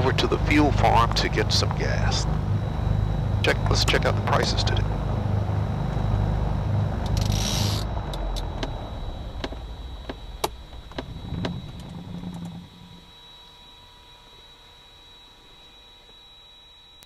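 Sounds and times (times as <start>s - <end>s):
airplane engines winding down: 0.0s - 17.0s
faint high whine: 0.0s - 17.0s.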